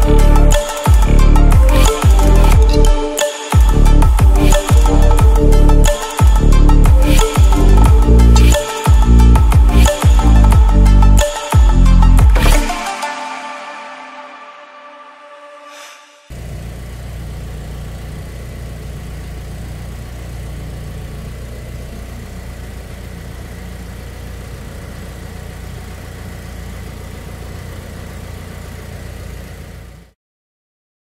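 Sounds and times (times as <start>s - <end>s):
car engine idling: 0.0s - 3.0s, 3.6s - 12.6s, 16.3s - 30.2s.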